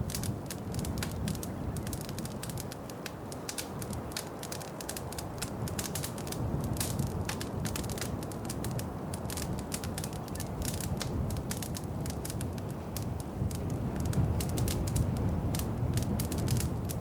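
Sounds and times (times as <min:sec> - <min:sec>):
low rumble of flames: 0:00.0 - 0:17.0
wood fire popping and snapping: 0:00.0 - 0:17.0.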